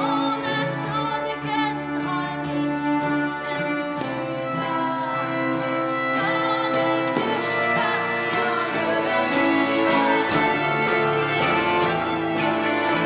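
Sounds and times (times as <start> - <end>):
fiddles playing melody: 0.0 - 13.0
harmonium chords: 0.0 - 13.0
strummed twelve-string guitar: 0.0 - 13.0.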